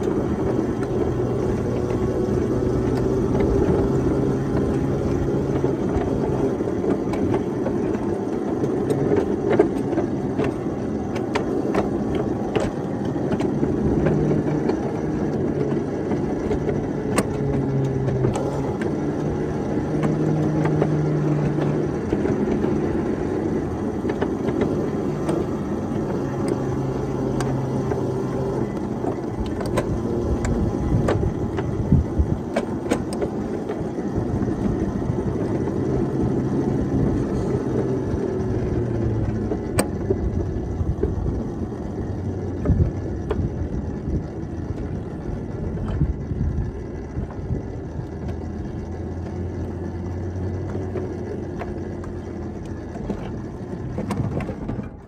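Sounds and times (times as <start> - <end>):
miniature locomotive running: 0.0 - 55.0
wheels clicking over rail joints: 0.0 - 55.0.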